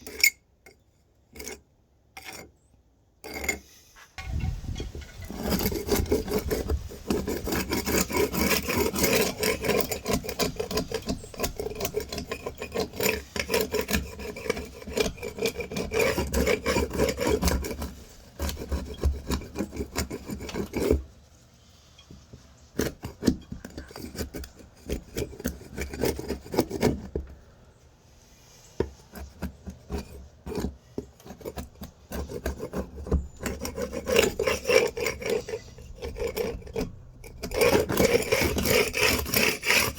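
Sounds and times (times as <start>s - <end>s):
paint scraper rasping on wood: 3.3s - 21.1s, 22.0s - 27.3s, 28.7s - 39.9s.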